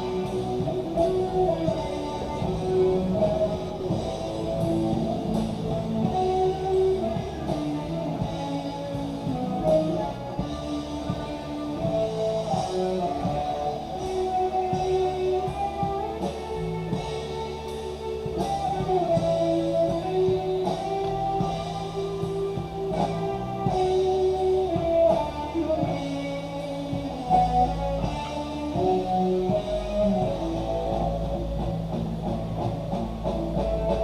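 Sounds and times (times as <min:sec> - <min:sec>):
drums: 0:00.0 - 0:34.0
guitar: 0:00.0 - 0:34.0.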